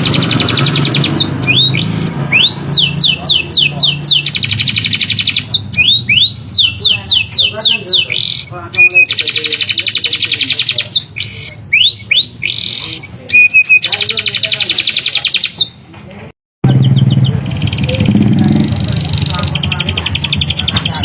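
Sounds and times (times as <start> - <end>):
faint chirping: 0.0 - 15.8, 16.6 - 21.0
canary singing: 0.0 - 15.9, 16.6 - 21.0.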